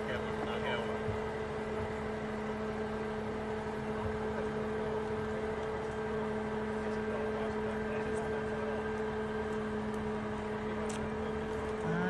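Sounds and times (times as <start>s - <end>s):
motor droning steadily: 0.0s - 12.0s.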